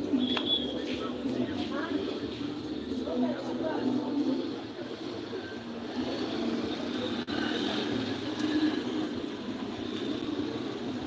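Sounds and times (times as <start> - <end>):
street noise with running vehicle: 0.0 - 11.0.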